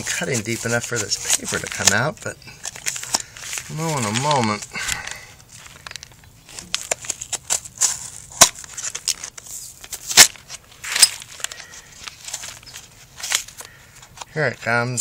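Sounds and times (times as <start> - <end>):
paper crackling and tearing: 0.0 - 14.8.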